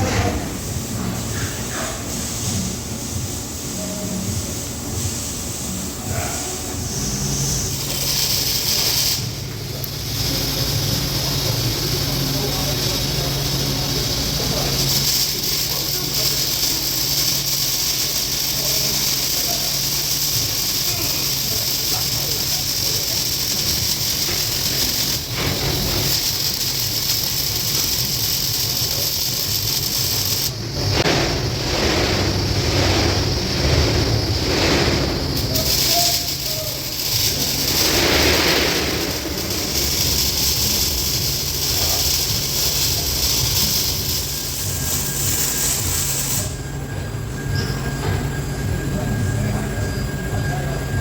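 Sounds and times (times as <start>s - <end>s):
welding arc hissing: 0.0s - 51.0s
welding machine hum: 0.0s - 51.0s
rhythmic pulses: 5.8s - 51.0s.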